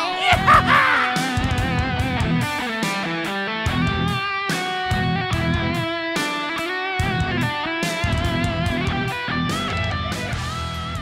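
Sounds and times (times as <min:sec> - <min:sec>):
electric guitar music: 0:00.0 - 0:11.0.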